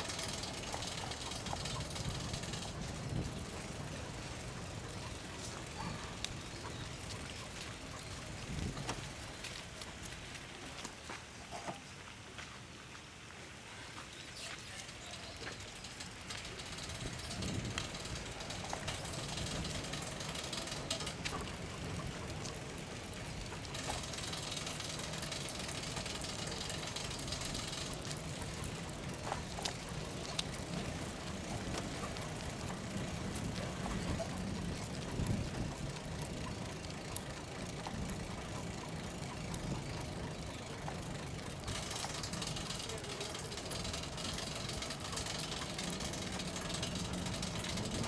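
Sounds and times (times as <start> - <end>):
bicycle rolling and rattling: 0.0 - 48.0.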